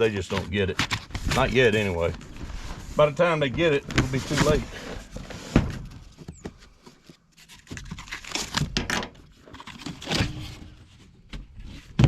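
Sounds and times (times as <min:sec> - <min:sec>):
cardboard crinkling and tearing: 0:00.1 - 0:12.0.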